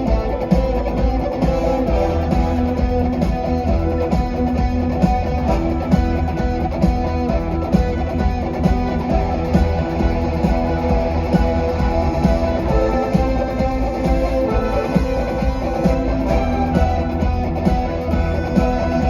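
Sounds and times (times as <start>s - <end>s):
live rock music: 0.0s - 19.0s.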